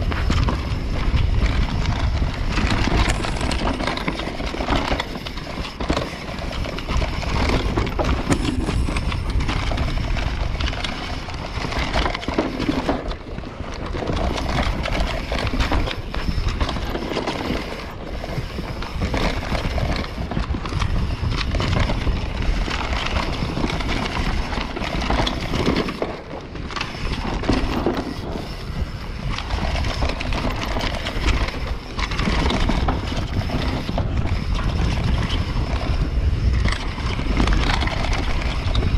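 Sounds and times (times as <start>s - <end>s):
bike rattling over bumps: 0.0s - 38.9s
wind rumble on microphone: 0.0s - 38.9s.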